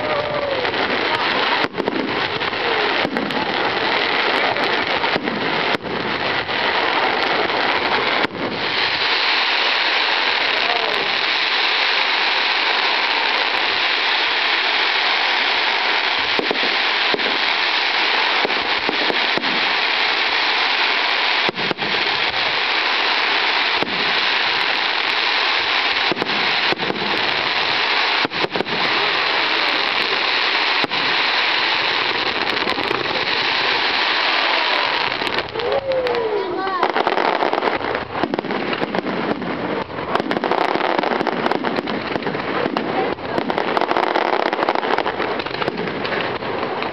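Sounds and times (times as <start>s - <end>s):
fireworks crackling: 0.0s - 46.9s
fireworks sharp bangs: 0.0s - 46.9s.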